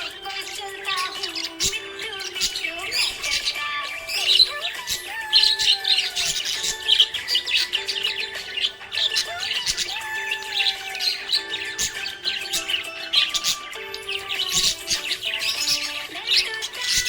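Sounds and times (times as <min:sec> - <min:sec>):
background music with held notes: 0:00.0 - 0:17.0
budgerigars chirping: 0:00.0 - 0:17.0.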